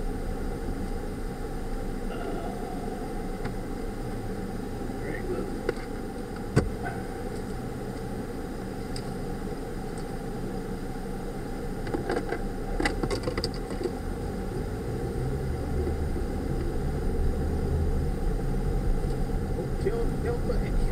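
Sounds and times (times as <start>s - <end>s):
car engine and road rumble: 0.0s - 20.9s.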